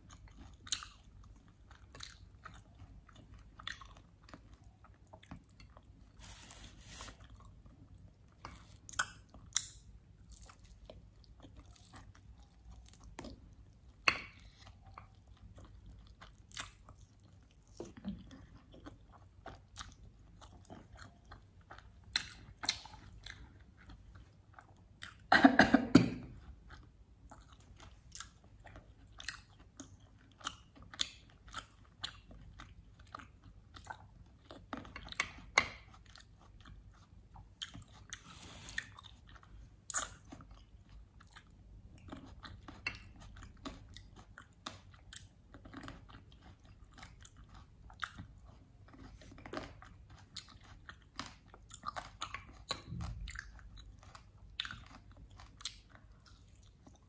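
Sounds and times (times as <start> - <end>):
close chewing and biting: 0.0 - 25.3, 26.3 - 57.0.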